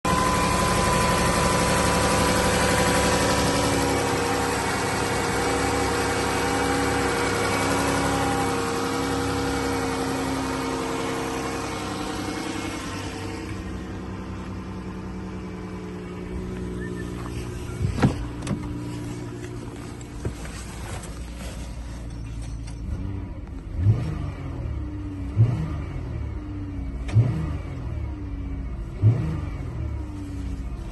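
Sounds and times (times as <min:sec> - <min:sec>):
car engine idling: 0:00.0 - 0:30.9
engine throttle blips: 0:00.1 - 0:30.9.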